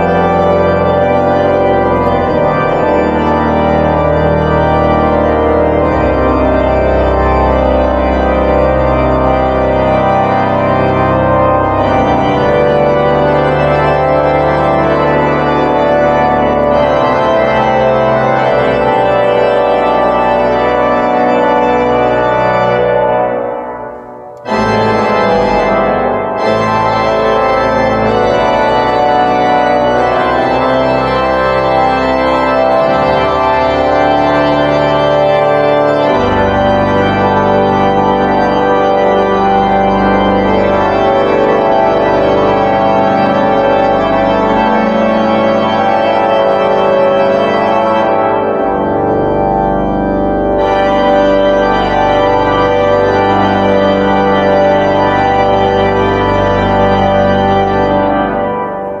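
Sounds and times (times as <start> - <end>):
pipe organ playing hymn chords: 0.0 - 59.0.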